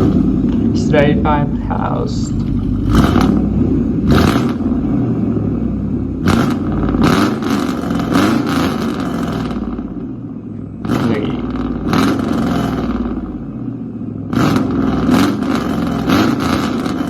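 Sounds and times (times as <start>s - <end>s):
sharp exhaust cracks: 0.0s - 17.0s
truck engine revving: 0.0s - 17.0s.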